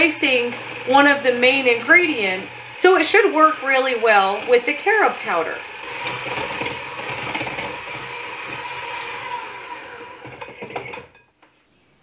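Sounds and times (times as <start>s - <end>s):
electric hand mixer whipping: 0.0s - 11.2s.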